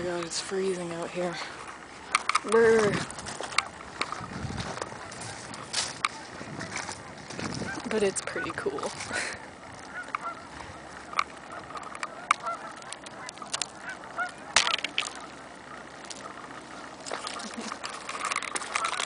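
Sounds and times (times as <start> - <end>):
geese honking: 0.6 - 19.0.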